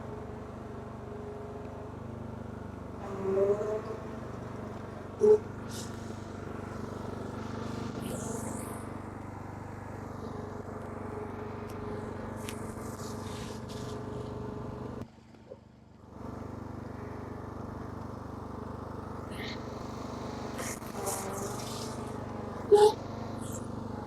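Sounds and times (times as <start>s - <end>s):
lawn mower engine running: 0.0s - 3.2s, 3.9s - 24.0s.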